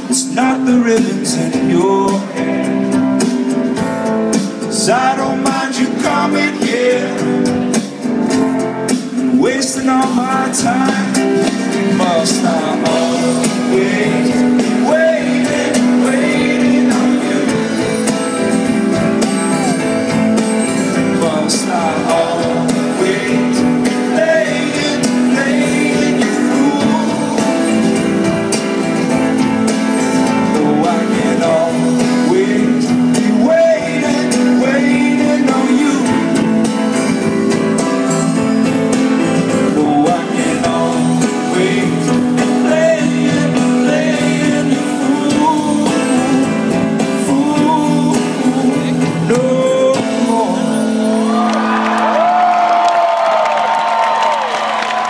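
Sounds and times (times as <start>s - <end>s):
person singing: 0.0s - 3.2s, 4.6s - 8.0s, 9.1s - 52.8s
acoustic guitar: 0.0s - 55.0s
piano: 0.0s - 55.0s.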